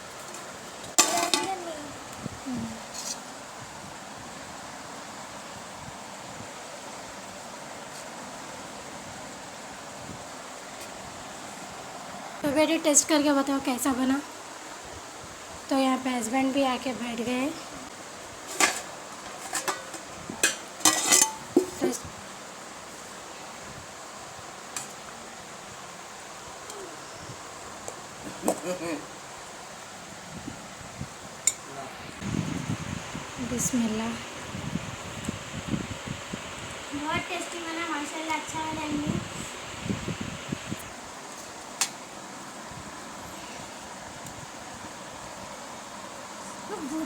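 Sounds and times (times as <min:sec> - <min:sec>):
background room hiss: 0:00.0 - 0:47.0.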